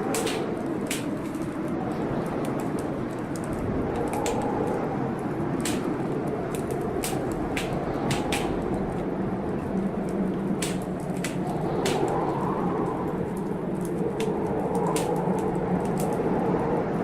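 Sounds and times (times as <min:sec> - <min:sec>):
storm rain hissing: 0:00.0 - 0:17.0
wood fire crackling and popping: 0:00.0 - 0:17.0.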